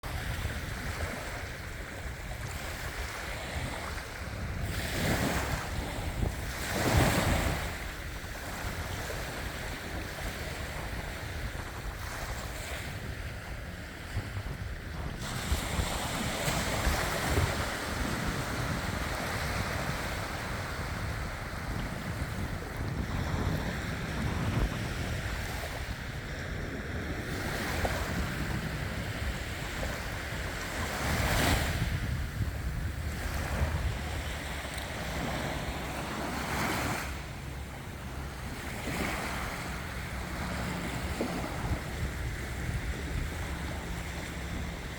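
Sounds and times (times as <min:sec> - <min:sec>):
sea waves washing in: 0:00.0 - 0:44.9
wind buffeting microphone: 0:00.0 - 0:44.9.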